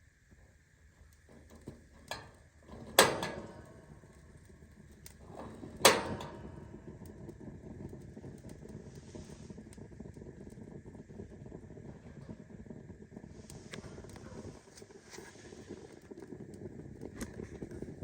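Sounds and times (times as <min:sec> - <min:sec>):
heater burning with low rush: 0:00.0 - 0:18.0.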